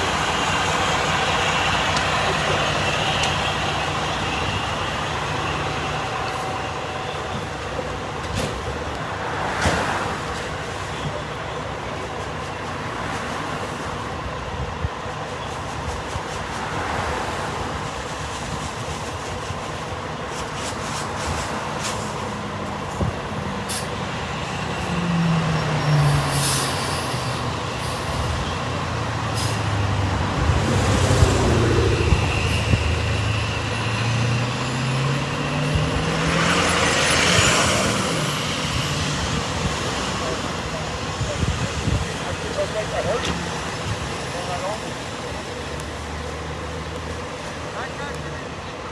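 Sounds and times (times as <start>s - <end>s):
heavy truck engine running: 0.0s - 48.9s.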